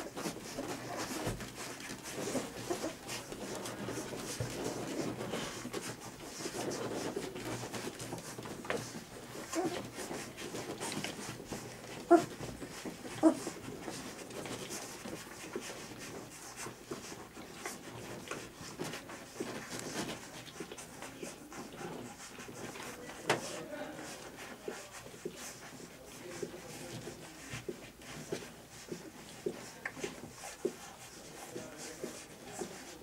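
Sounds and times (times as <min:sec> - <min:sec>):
puppies suckling: 0:00.0 - 0:33.0.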